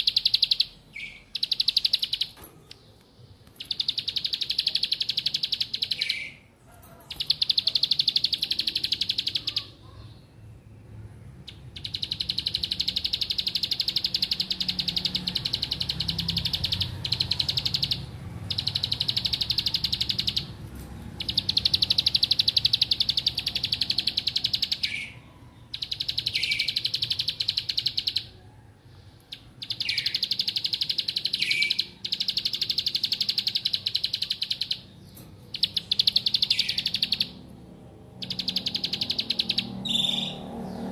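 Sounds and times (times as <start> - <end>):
bird singing buzzy trills: 0.0 - 6.5, 7.1 - 28.4, 29.2 - 40.9.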